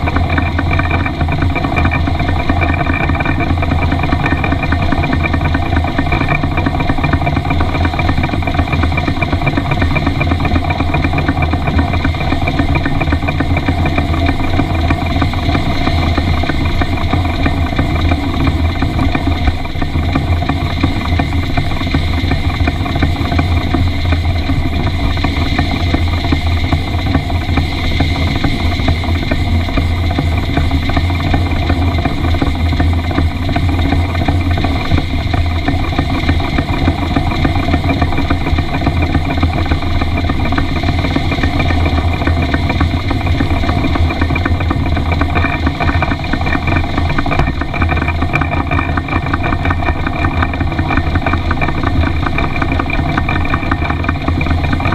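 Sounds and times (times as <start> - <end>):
steam locomotive running: 0.0 - 54.9.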